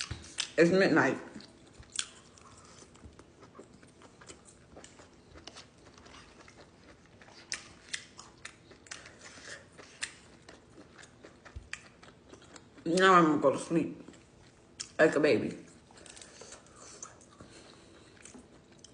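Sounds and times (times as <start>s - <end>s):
chewing and mouth clicks: 0.0s - 0.6s, 1.3s - 13.0s, 14.0s - 15.0s, 15.7s - 18.9s.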